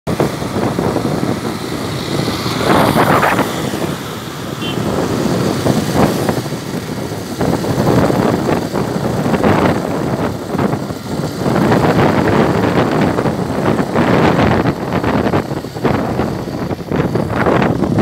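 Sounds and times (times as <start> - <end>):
gusty wind noise on microphone: 0.1 - 18.0
motorcycle engine running: 0.1 - 18.0.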